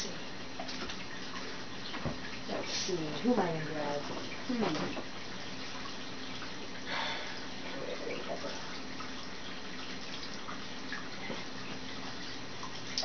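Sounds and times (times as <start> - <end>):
low steady hum: 0.0 - 13.0
water trickling: 0.0 - 13.0.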